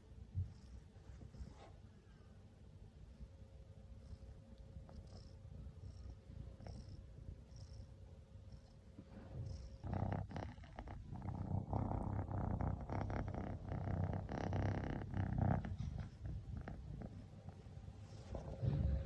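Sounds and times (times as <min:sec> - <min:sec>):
cat purring: 0:00.0 - 0:01.9, 0:03.0 - 0:19.0.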